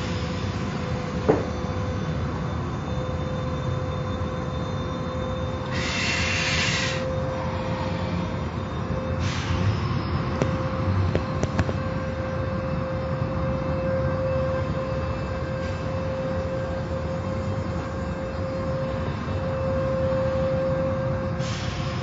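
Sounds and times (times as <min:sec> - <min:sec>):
steady whine: 0:00.0 - 0:22.0.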